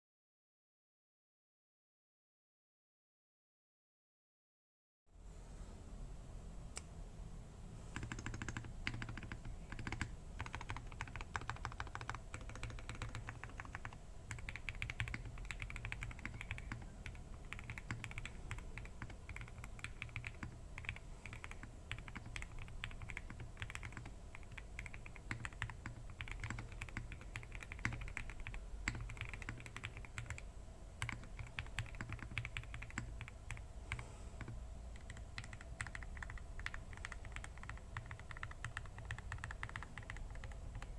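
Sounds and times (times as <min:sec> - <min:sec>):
mechanical keyboard typing: 0:07.9 - 0:40.9.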